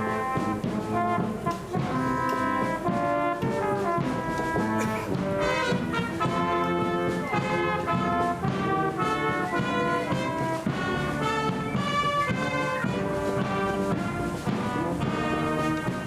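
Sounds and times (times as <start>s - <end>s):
brass band playing chords: 0.0s - 16.0s.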